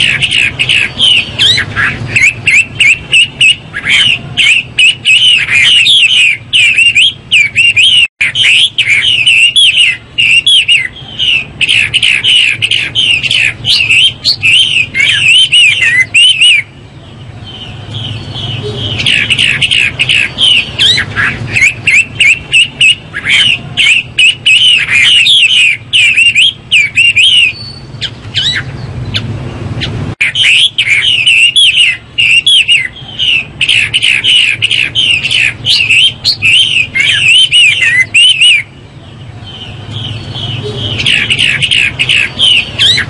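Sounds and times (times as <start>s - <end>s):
bird singing whistled phrases: 0.0s - 16.7s, 17.5s - 28.9s, 30.2s - 38.7s, 39.5s - 43.0s.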